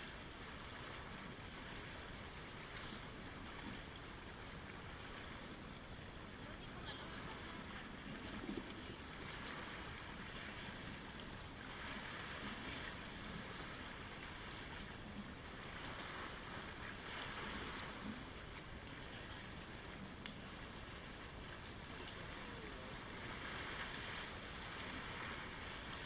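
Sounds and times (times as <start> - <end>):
small waves lapping: 0.0 - 26.0.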